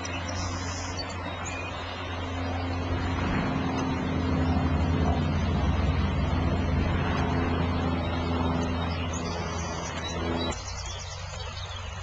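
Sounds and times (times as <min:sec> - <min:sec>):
birds chirping: 0:00.0 - 0:12.0
low engine hum: 0:00.0 - 0:12.0.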